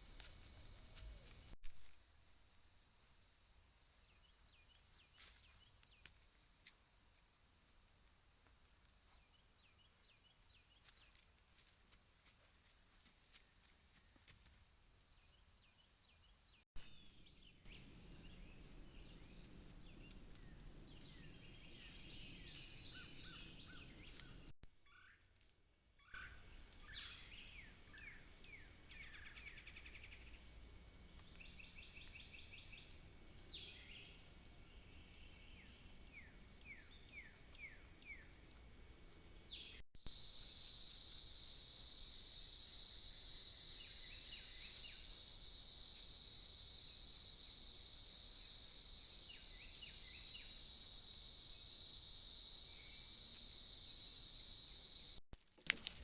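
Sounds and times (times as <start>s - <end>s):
high insect drone: 0.0s - 16.2s, 16.8s - 55.2s.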